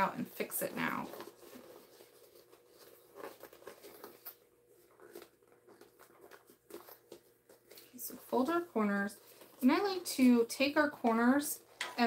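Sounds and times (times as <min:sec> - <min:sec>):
fabric bag rustling and scuffing: 0:00.0 - 0:10.0.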